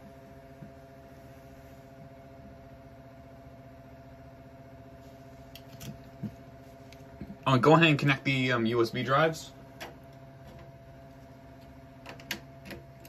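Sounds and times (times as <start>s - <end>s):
desktop computer humming: 0.0s - 13.0s.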